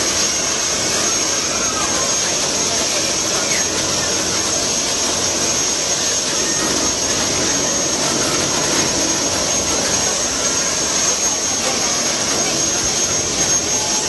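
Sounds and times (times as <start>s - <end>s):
helicopter engine and rotor: 0.0s - 14.0s
high-pitched whine: 0.0s - 14.0s.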